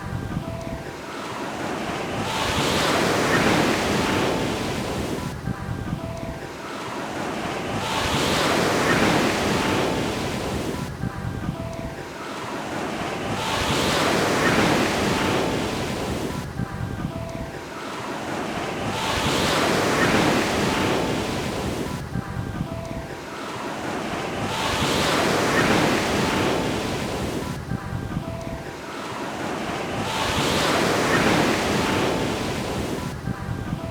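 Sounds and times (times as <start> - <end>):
ocean waves breaking on beach: 0.0 - 33.9.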